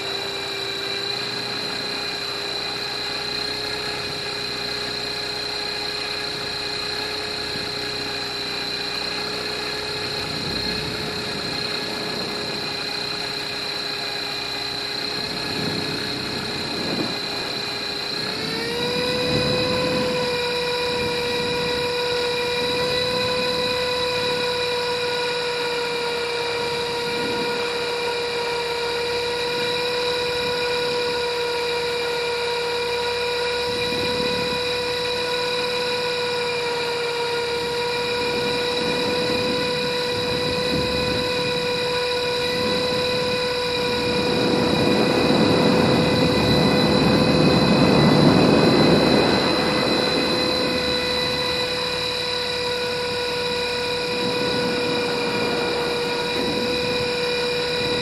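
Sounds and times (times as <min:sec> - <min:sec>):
helicopter motor and rotors whining: 0:00.0 - 0:58.0.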